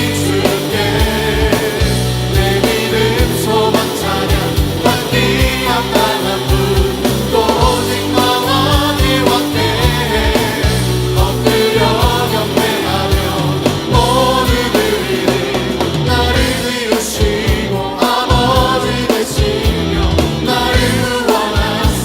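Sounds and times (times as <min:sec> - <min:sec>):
people singing: 0:00.0 - 0:22.0
steady drum beat: 0:00.0 - 0:22.0
worship band music: 0:00.0 - 0:22.0.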